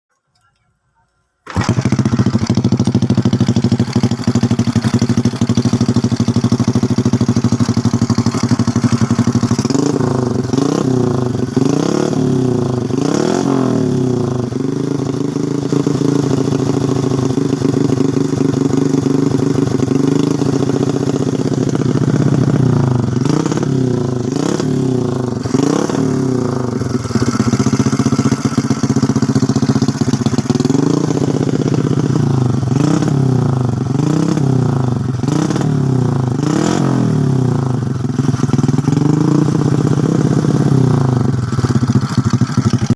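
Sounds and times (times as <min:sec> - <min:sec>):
motorcycle engine idling and revving: 0:01.4 - 0:42.9.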